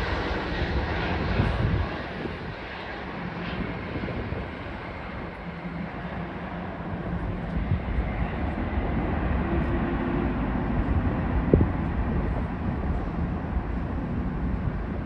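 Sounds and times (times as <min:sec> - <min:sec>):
distant jet airliner rumble: 0:00.0 - 0:15.0.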